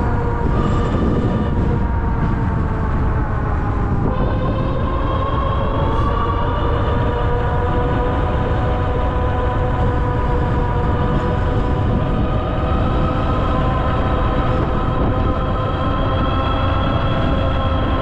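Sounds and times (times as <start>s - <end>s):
heavy low rumble: 0.0s - 18.0s.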